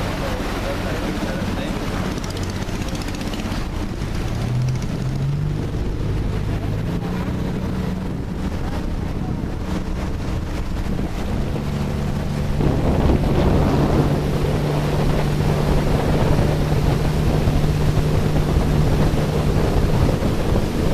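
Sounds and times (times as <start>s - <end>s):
speedboat engine running: 0.0s - 20.9s
water rushing along hull: 0.0s - 20.9s
wind on microphone: 0.0s - 20.9s.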